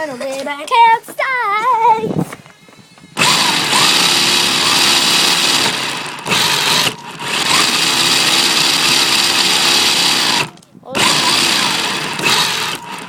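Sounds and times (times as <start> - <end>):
tyre and ground noise: 0.0 - 13.0
rc car motor whine: 2.3 - 13.0.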